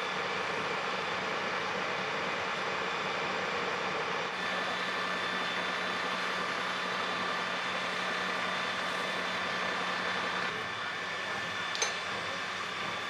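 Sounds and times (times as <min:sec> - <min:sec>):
diesel engines and pumps droning: 0:00.0 - 0:13.0.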